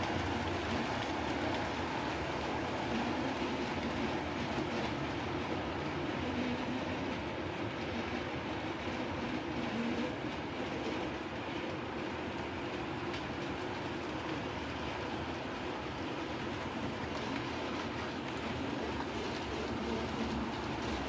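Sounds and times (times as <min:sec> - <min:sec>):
model train motors whirring: 0:00.0 - 0:21.0
small wheels rolling on rails: 0:00.0 - 0:21.0.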